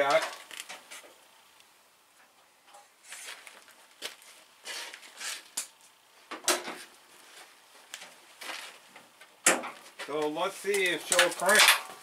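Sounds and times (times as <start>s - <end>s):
rustling and scraping: 2.2s - 12.0s.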